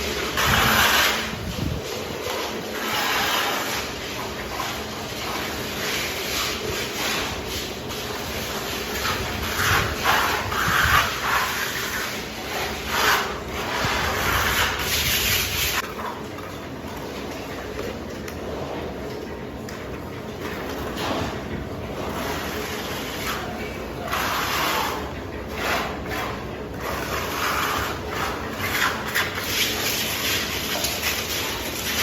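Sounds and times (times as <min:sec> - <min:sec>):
trowel scraping wet plaster: 0:00.0 - 0:15.9, 0:22.0 - 0:32.0.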